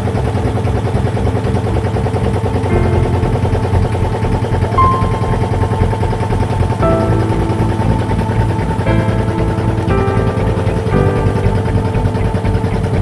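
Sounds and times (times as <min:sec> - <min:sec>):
boat engine throbbing: 0:00.0 - 0:13.0.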